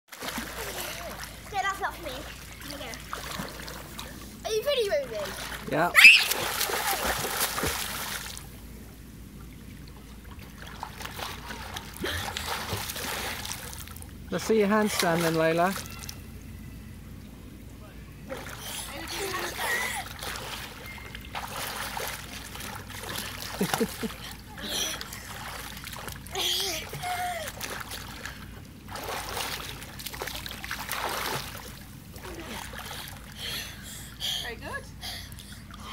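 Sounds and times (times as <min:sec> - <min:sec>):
children splashing pool water: 0:00.1 - 0:08.6, 0:09.8 - 0:16.5, 0:18.2 - 0:35.9.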